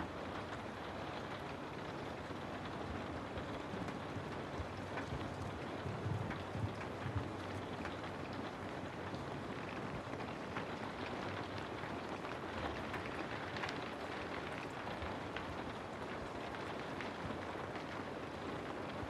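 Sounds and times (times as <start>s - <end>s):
raindrop ticks: 0.2s - 19.0s.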